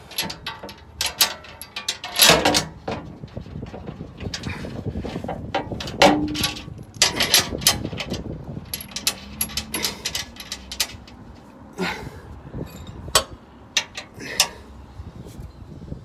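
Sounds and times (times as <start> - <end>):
bolt clicking and scraping in metal: 0.0 - 11.5, 12.7 - 14.6.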